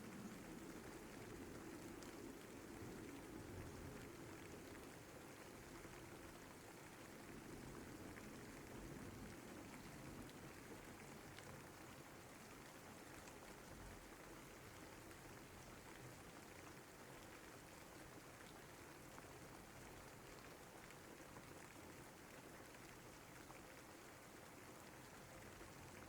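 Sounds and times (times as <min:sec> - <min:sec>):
soft rain falling: 0:00.0 - 0:26.0.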